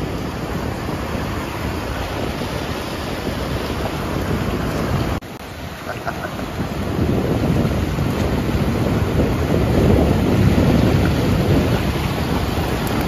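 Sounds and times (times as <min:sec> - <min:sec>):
ocean surf washing in: 0:00.0 - 0:13.0
wind buffeting microphone: 0:00.0 - 0:13.0.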